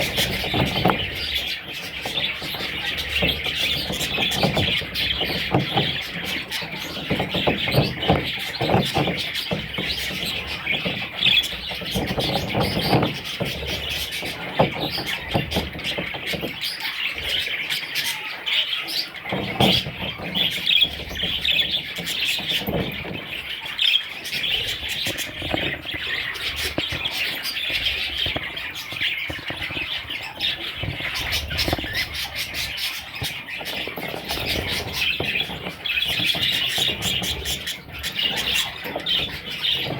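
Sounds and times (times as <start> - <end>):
budgerigars chirping and chattering: 0.0 - 39.9
rustles: 0.0 - 39.9.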